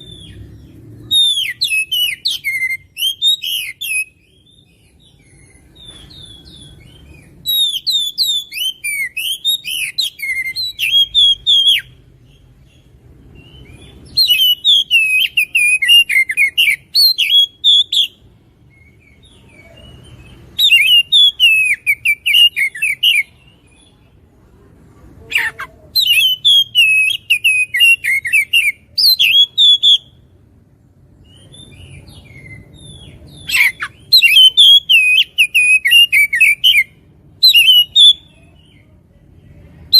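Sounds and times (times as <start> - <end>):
bird singing chirps and whistles: 0.0 - 24.0, 25.4 - 30.2, 31.2 - 38.8.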